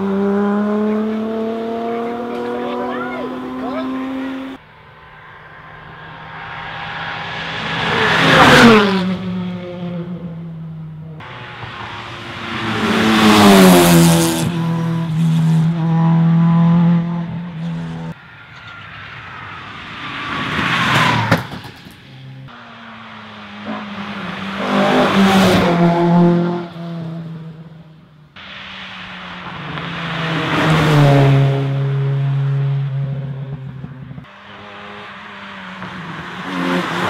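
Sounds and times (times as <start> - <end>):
rally cars passing at speed: 0.0 - 37.0.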